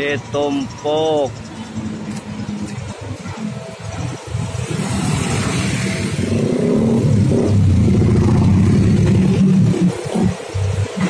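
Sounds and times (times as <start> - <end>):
vehicle engine passing by: 1.8 - 11.0.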